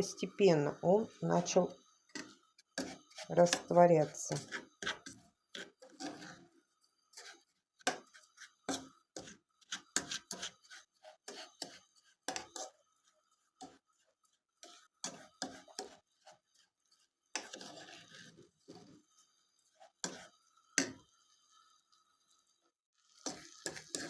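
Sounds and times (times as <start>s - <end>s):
fork scraping a metal ladle: 1.5s - 6.5s, 7.1s - 21.0s, 23.1s - 24.0s.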